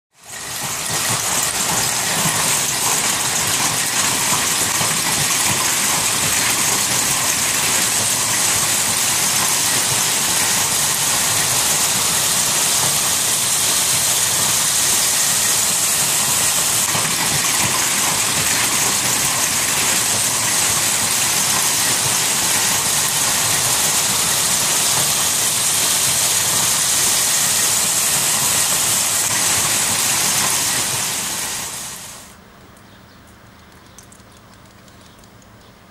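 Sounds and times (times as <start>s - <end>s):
heavy rain and hail: 0.2s - 32.4s.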